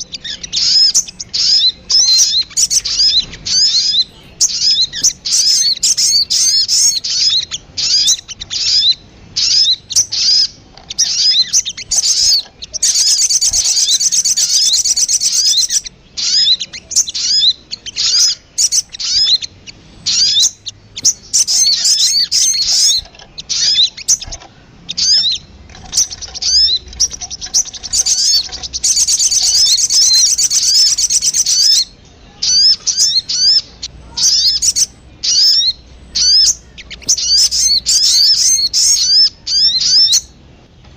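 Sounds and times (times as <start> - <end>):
fast bird chatter: 0.0 - 40.4
short high bird calls: 0.0 - 40.4.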